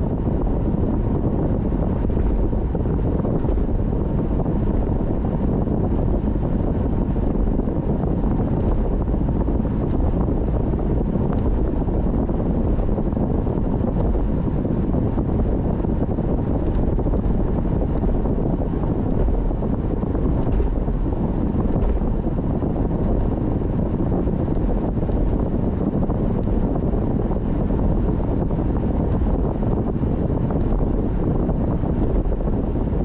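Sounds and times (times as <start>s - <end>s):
car road and wind noise: 0.0s - 33.0s.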